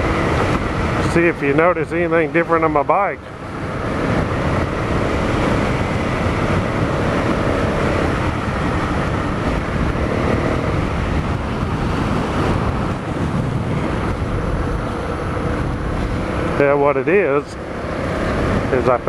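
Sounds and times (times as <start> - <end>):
motorcycle engine running: 0.0 - 19.0
wind on microphone: 0.0 - 19.0.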